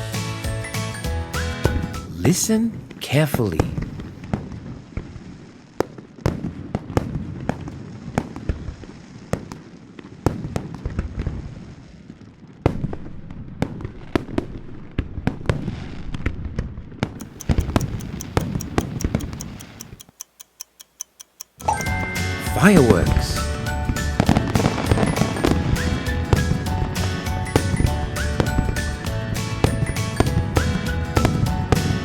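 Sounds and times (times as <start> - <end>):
fireworks bangs and crackles: 0.6 - 19.2, 21.8 - 32.0.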